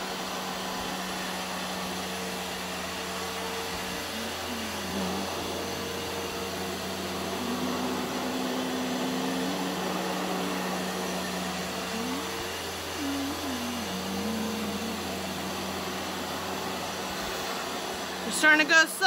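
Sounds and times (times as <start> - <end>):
carpet shampooer motor hum: 0.0 - 19.0.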